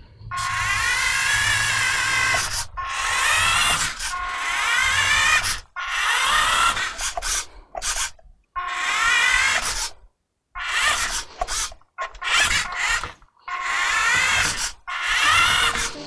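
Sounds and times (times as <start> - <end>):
toy car electric motor whining: 0.3 - 10.0, 10.6 - 16.0.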